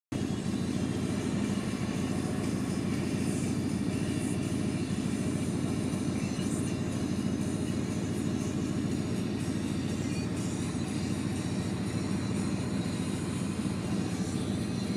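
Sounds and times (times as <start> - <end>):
tractor engine rumbling: 0.1 - 14.9.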